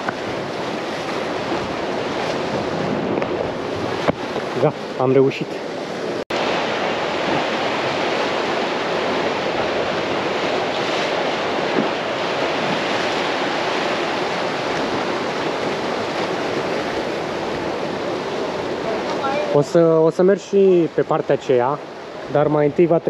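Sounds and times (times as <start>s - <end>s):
sea surf against rocks: 0.0s - 23.0s
wind: 0.0s - 23.0s.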